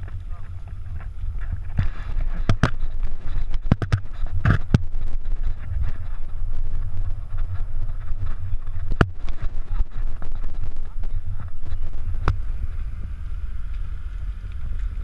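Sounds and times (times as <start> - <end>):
bike tyres rolling on rough road: 0.0 - 15.0
wind buffeting microphone: 0.0 - 15.0.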